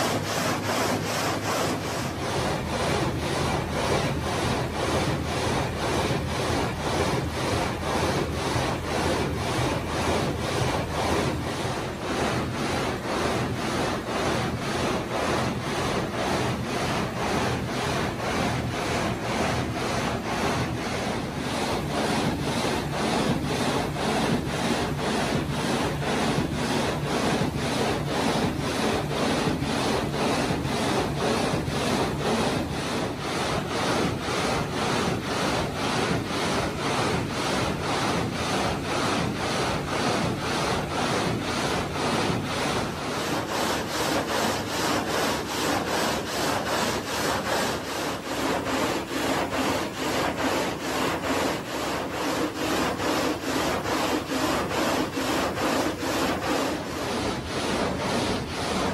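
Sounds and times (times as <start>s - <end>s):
gang saw rasping through marble: 0.0s - 58.9s.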